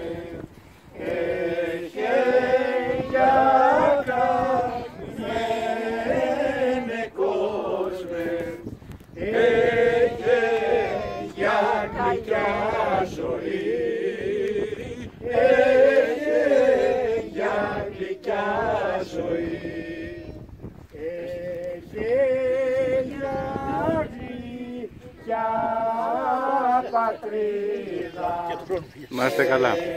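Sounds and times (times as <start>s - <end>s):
group singing without instruments: 0.0s - 29.9s.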